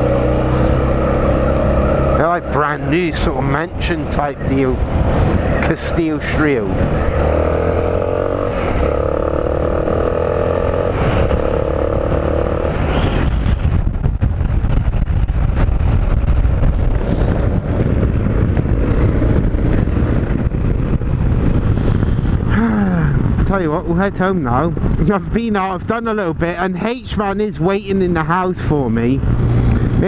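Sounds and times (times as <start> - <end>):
motorcycle engine accelerating: 0.0 - 25.0
wind rushing on microphone: 0.0 - 30.0.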